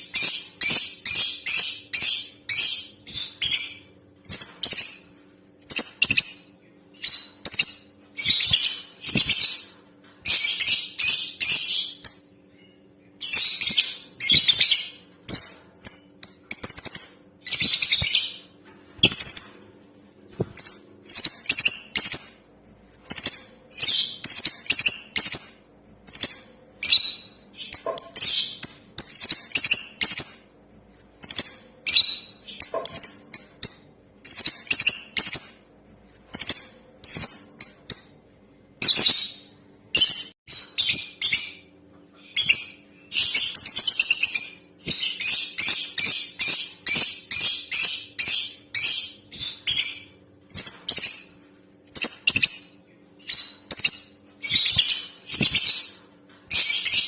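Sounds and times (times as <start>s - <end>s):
lovebird chirping: 0.0s - 19.8s, 20.5s - 30.6s, 31.2s - 57.0s.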